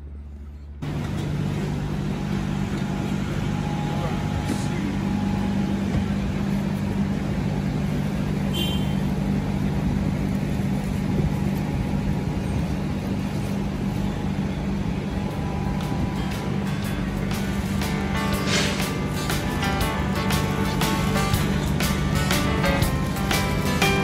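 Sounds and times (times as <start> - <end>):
gas burner humming: 0.8 - 24.0.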